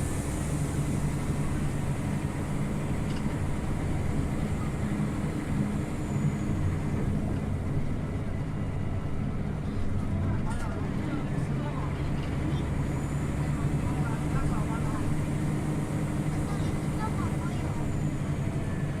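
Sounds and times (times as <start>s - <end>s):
bus engine: 0.0s - 19.0s
road noise inside bus: 0.0s - 19.0s.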